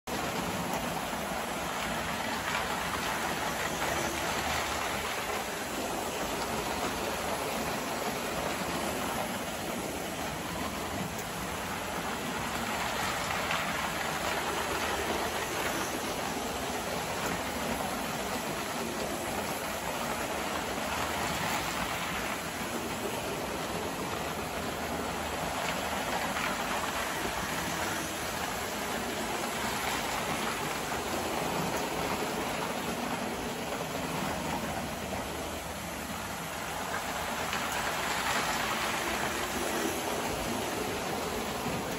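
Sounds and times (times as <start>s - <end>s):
toy trains rattling on track: 0.1s - 41.9s.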